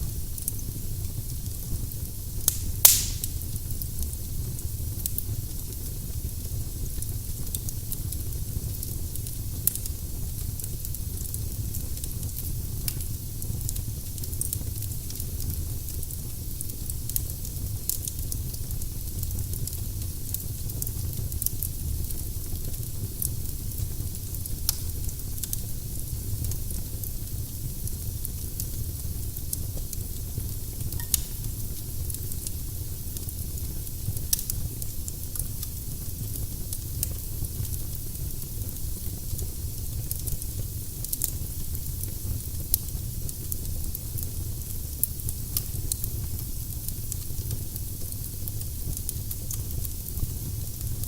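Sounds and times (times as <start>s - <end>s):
firewood crackling and hissing: 0.0s - 51.0s.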